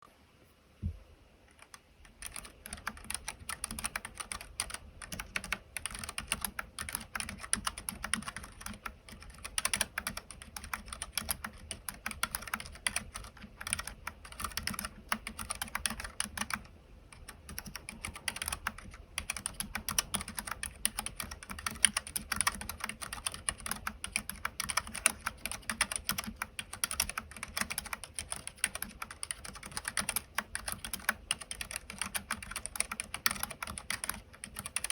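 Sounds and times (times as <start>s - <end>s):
mechanical keyboard typing: 1.5s - 34.9s.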